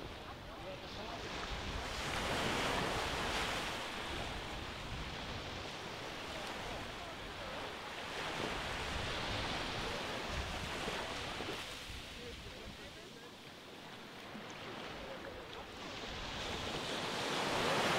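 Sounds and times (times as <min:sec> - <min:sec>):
gentle surf on sandy beach: 0:00.0 - 0:17.9.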